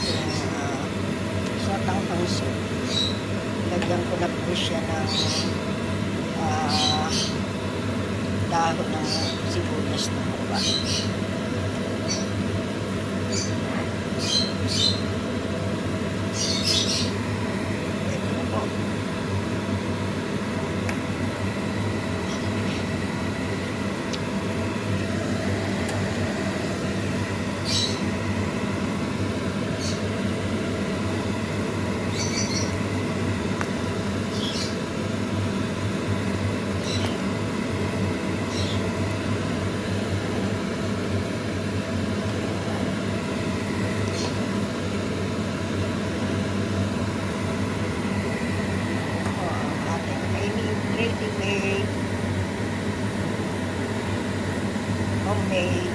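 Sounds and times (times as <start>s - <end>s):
steady mechanical hum: 0.0s - 55.9s.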